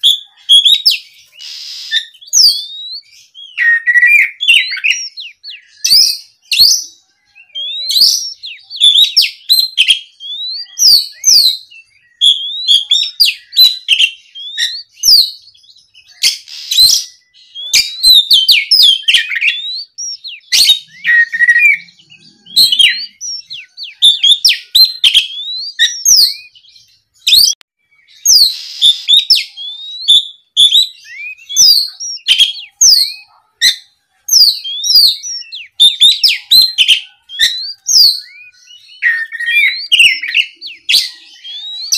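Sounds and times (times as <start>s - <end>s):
bird singing loudly: 0.0s - 41.9s.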